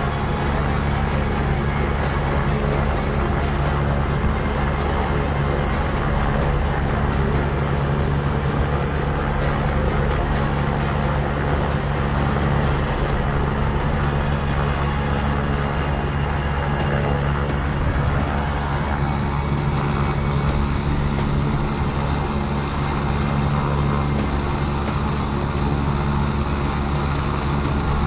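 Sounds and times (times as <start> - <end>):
engine drone: 0.0 - 28.0
wide rushing noise: 0.0 - 28.0.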